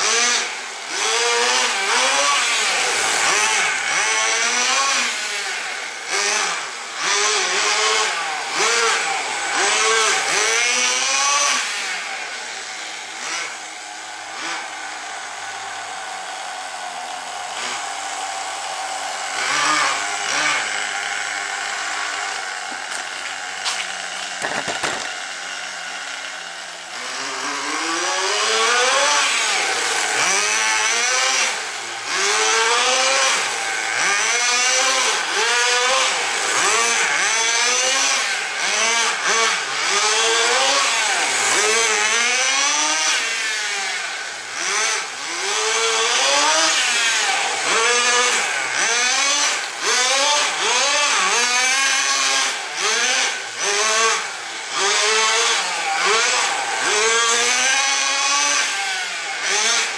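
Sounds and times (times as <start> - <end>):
rc car engine revving: 0.0 - 59.9.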